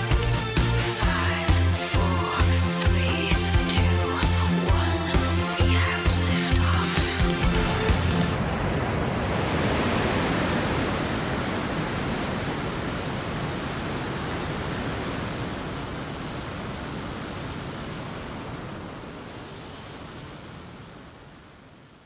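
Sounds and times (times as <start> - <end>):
rushing electronic noise wash: 0.0 - 22.0.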